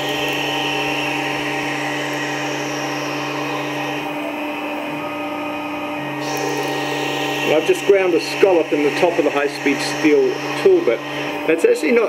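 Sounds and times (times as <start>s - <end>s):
cutting and coolant hiss: 0.0s - 12.0s
milling machine hum: 0.0s - 12.0s.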